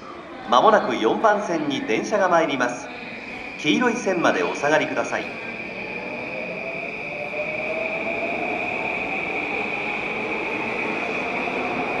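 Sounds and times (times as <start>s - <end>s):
electric train whine: 1.0s - 12.0s.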